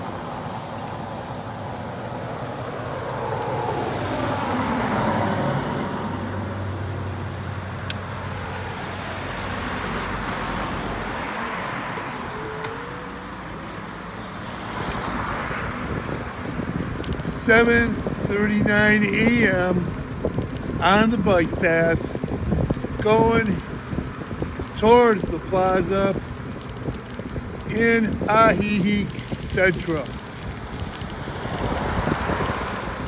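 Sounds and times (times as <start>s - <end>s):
road noise: 0.0s - 33.0s
vehicle passing by: 0.0s - 33.0s.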